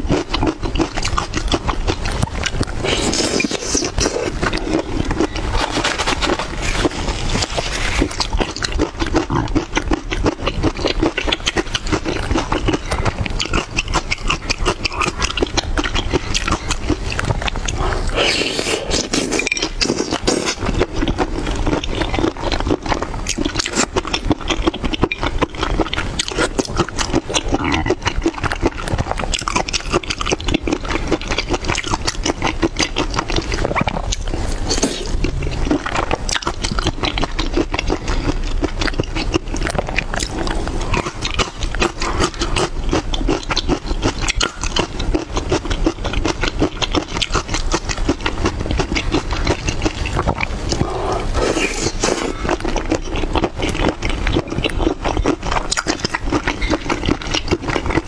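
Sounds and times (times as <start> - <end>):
wet chewing and lip-smacking: 0.0 - 58.0.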